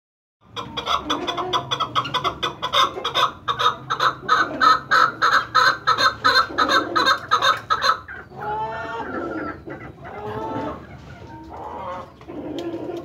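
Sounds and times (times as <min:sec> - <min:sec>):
partridge calling: 0:00.4 - 0:12.2.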